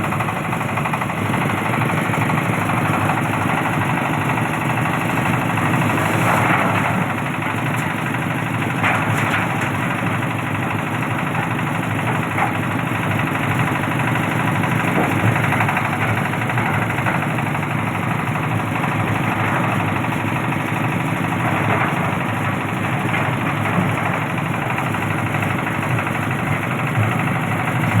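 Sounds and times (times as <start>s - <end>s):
threshing machine running: 0.0s - 28.0s.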